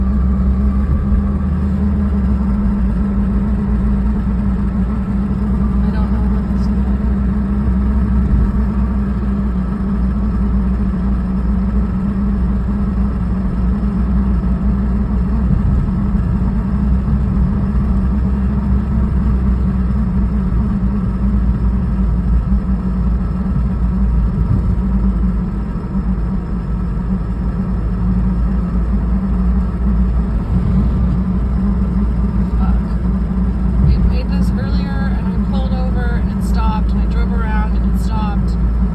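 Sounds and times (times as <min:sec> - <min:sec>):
car engine drone: 0:00.0 - 0:38.9.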